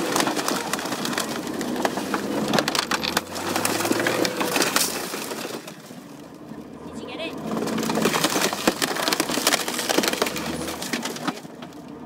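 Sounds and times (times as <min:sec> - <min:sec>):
car metal crunching and glass shattering: 0:00.0 - 0:06.4, 0:07.4 - 0:11.9.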